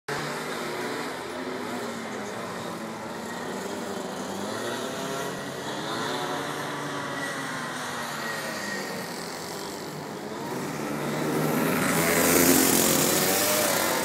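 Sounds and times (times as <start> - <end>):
distant kart engines: 0.1 - 14.0.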